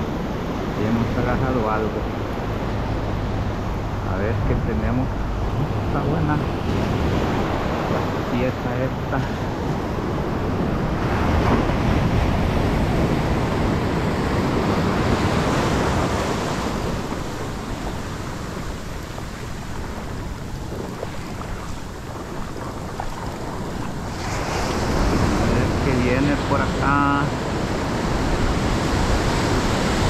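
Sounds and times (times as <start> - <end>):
ocean surf washing up beach: 0.0 - 30.0.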